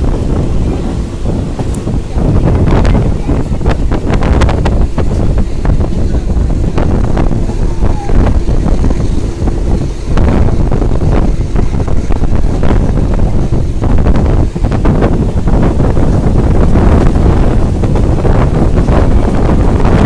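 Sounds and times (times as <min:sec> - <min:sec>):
train coaches rumbling on track: 0:00.0 - 0:20.0
wind buffeting microphone: 0:00.0 - 0:20.0.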